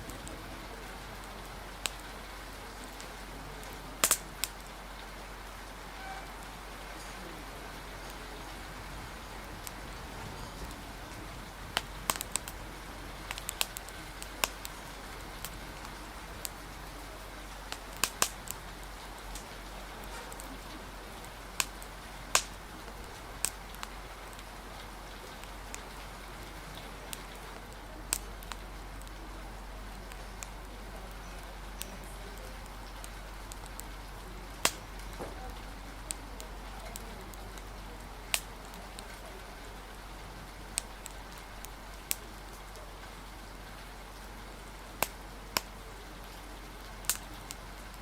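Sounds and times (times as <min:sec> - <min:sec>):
rain and wind hiss: 0:00.0 - 0:48.0
wood fire crackling: 0:00.0 - 0:48.0.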